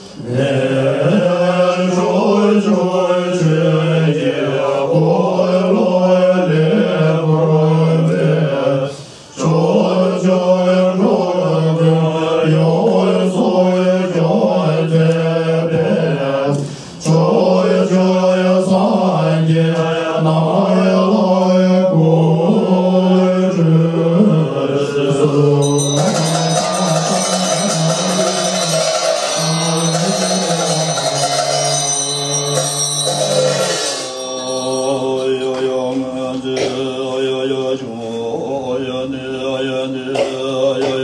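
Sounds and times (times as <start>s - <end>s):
mantra chanting: 0.0s - 41.0s.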